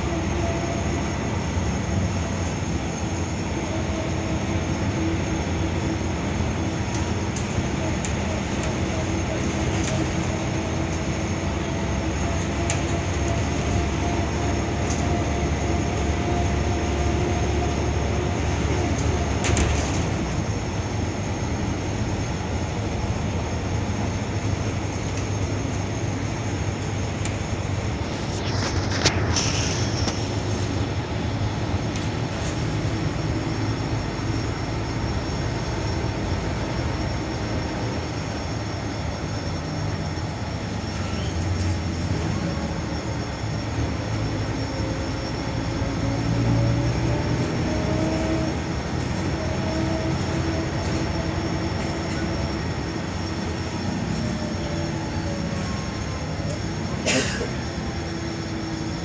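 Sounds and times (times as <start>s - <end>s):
bus diesel engine running: 0.0s - 59.0s
road and tyre noise: 0.0s - 59.0s.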